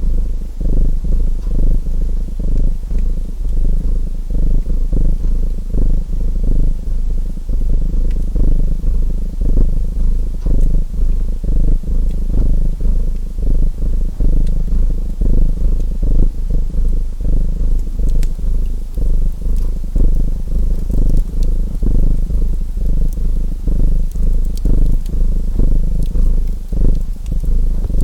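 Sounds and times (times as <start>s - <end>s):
cat purring: 0.0s - 28.0s
faint wood fire crackles: 0.0s - 28.0s.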